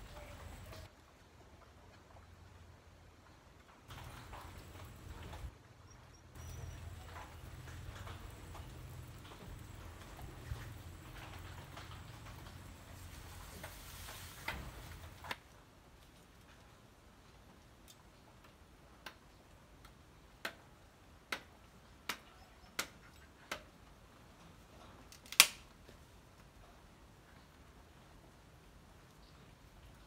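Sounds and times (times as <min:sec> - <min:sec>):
light rain hiss: 0:00.0 - 0:22.2, 0:23.3 - 0:30.0.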